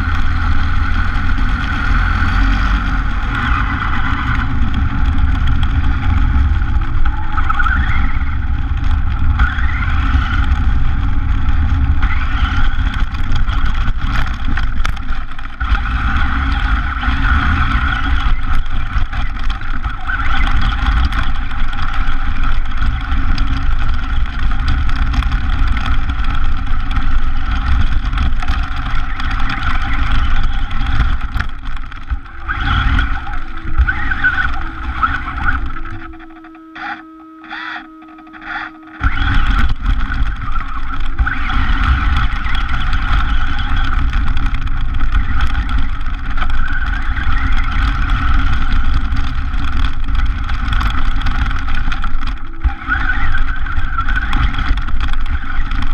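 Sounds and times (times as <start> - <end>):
tyres rumbling on ground: 0.0 - 36.8, 39.0 - 55.9
rc car motor whine: 0.0 - 55.9.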